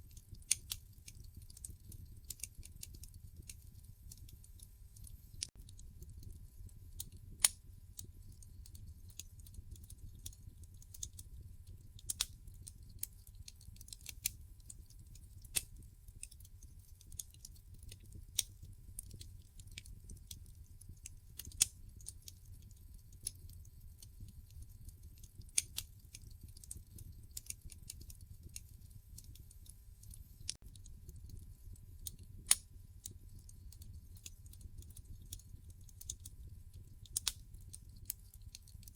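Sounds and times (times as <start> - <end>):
logs crackling in a fireplace: 0.0 - 38.9.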